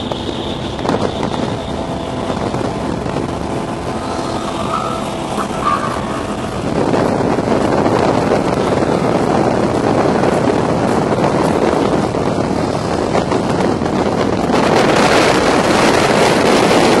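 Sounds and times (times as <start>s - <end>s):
heavy wind noise on microphone: 0.0s - 17.0s
hull on water: 0.0s - 17.0s
powerboat engines: 0.0s - 17.0s.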